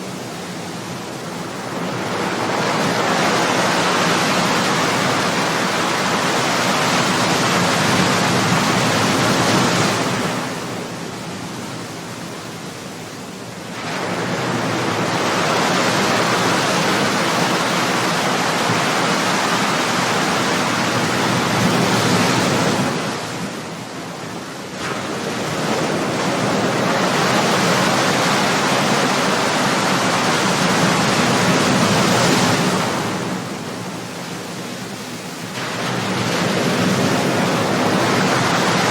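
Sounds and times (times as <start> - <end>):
ocean waves crashing on shore: 0.0 - 38.9.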